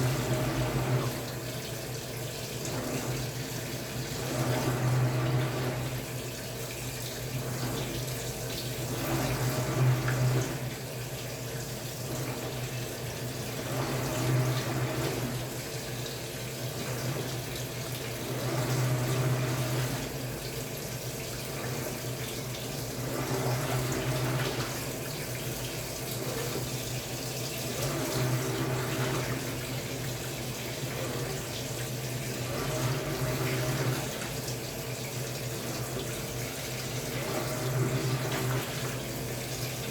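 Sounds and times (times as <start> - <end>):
washing machine motor hum: 0.0 - 39.9
water churning: 0.0 - 39.9.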